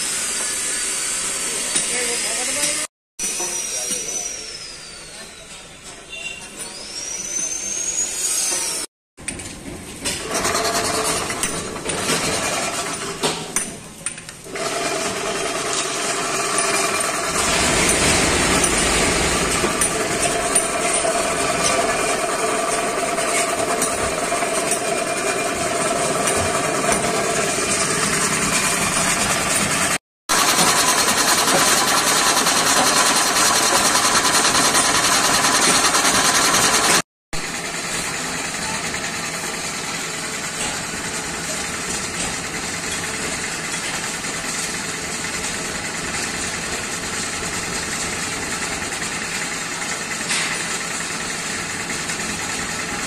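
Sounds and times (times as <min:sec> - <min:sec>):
air compressor running: 0:00.0 - 0:05.4, 0:10.0 - 0:13.6, 0:14.4 - 0:53.0.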